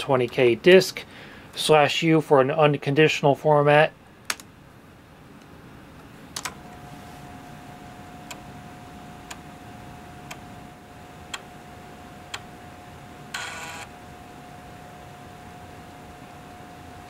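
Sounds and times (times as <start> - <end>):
floppy drive whine: 0.0 - 17.0.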